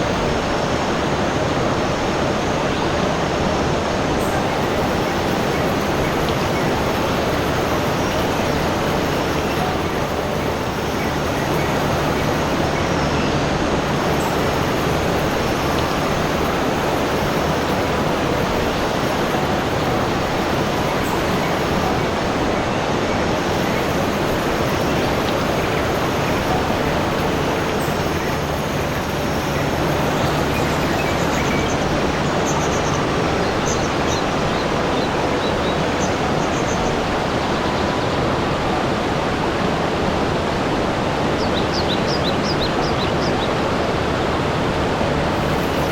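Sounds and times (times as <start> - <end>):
water flowing: 0.0 - 45.9.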